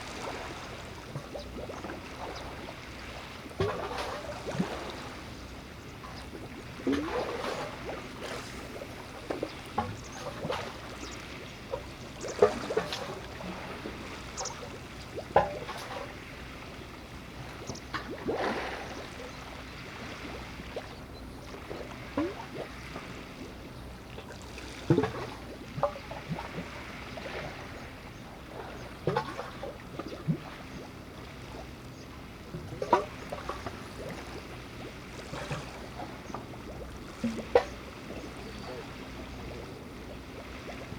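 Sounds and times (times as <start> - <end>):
water sloshing and lapping: 0.0 - 40.9.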